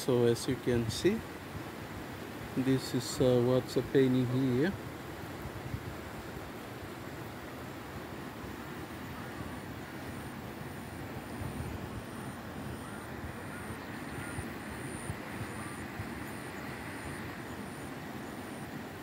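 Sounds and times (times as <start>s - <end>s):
flooded river roaring: 0.0s - 19.0s.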